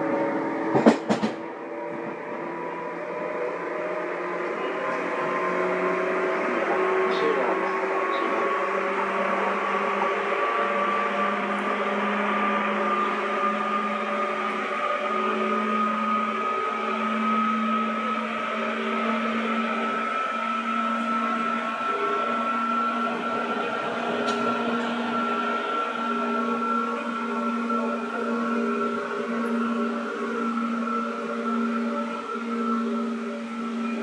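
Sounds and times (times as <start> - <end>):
electric train whine: 0.0 - 34.0
train running rumble: 0.0 - 34.0.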